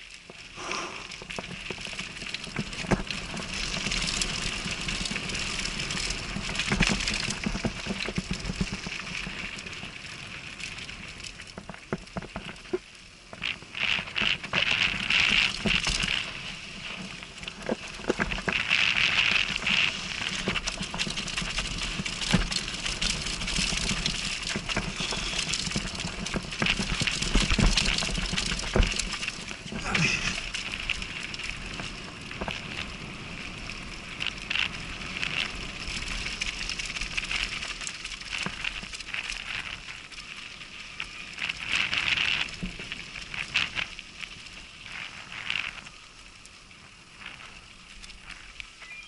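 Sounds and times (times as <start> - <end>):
bike rattling and clicking: 0.0 - 48.8
wind rumble on microphone: 0.0 - 48.9
bike tyres crunching on gravel: 0.0 - 49.0.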